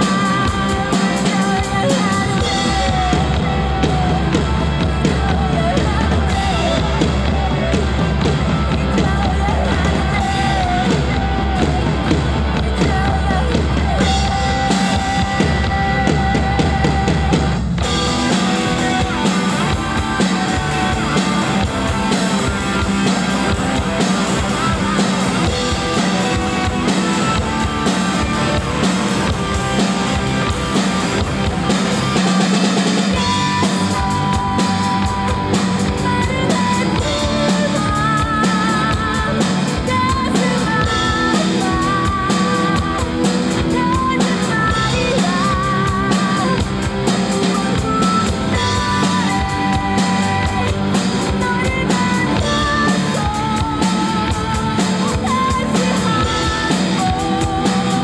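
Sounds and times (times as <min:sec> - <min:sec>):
drum kit playing: 0:00.0 - 0:58.0
rock backing track: 0:00.0 - 0:58.0.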